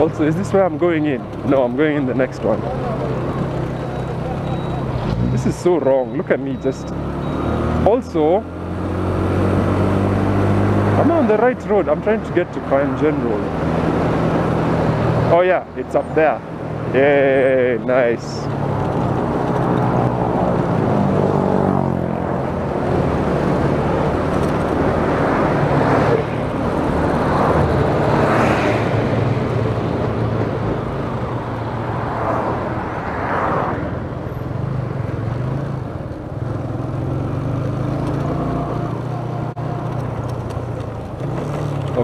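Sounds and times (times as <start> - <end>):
vehicles passing: 0.0 - 42.0
wind and road noise: 0.0 - 42.0.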